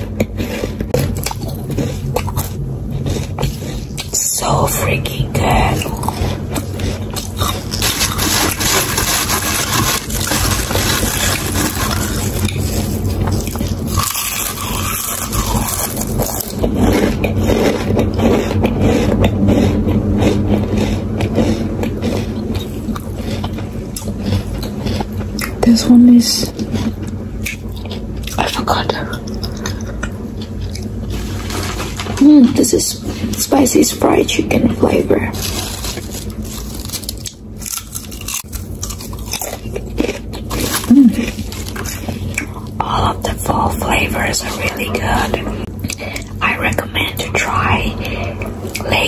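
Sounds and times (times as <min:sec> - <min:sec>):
chewing potato chips: 0:00.0 - 0:49.0.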